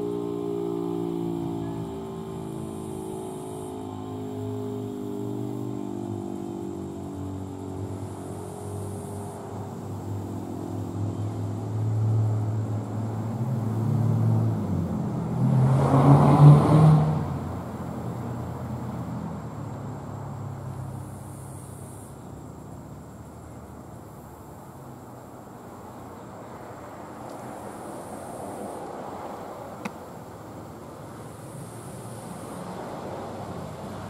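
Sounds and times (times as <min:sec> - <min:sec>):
vehicle passing: 0:00.0 - 0:34.0.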